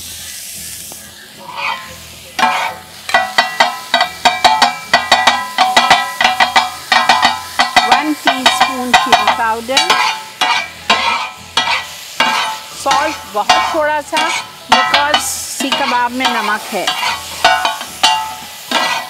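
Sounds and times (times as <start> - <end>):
food sizzling: 0.0 - 19.0
spatulas clanging on iron griddle: 1.4 - 19.0.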